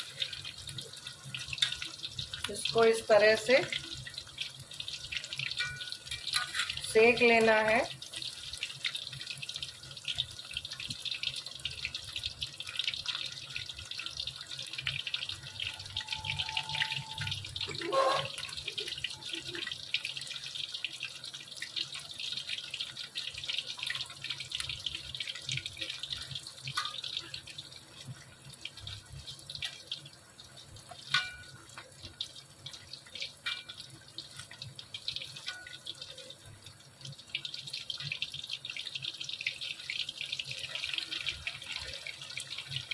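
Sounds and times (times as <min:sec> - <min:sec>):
oil sizzling and crackling: 0:00.0 - 0:42.9.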